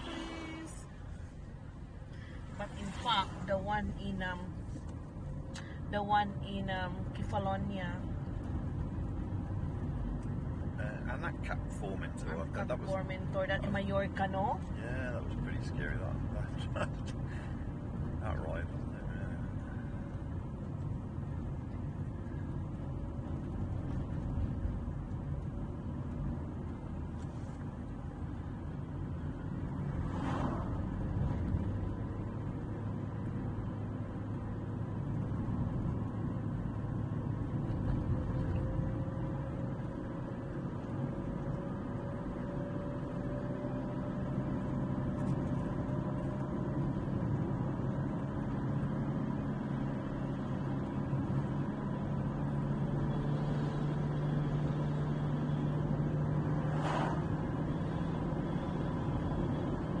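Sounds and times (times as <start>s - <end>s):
car engine and tyre hum: 0.0s - 60.0s.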